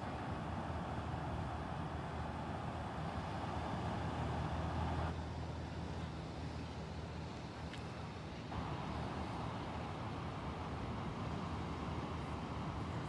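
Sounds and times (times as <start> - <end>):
surf washing on shore: 0.0 - 5.1, 5.9 - 13.0.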